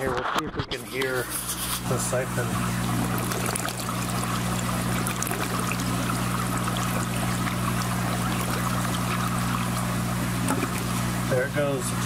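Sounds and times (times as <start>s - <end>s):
steady low hum: 0.2s - 12.0s
water draining and trickling: 1.8s - 12.0s.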